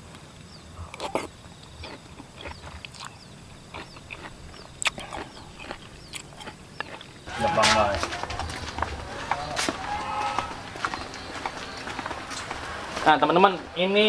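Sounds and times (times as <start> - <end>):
chewing and wet smacking: 0.8 - 13.1.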